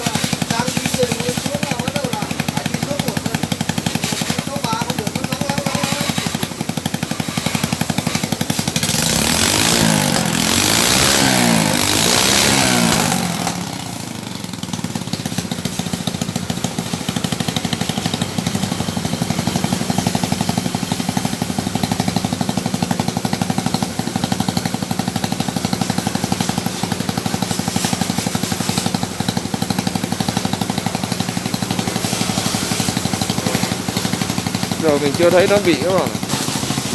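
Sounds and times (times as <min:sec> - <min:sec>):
motorcycle engine revving and idling: 0:00.0 - 0:36.9.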